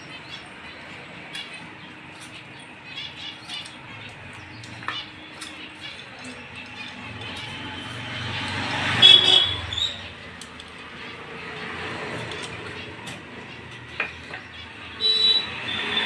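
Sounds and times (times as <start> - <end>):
traffic rumbling by: 0.0 - 16.0.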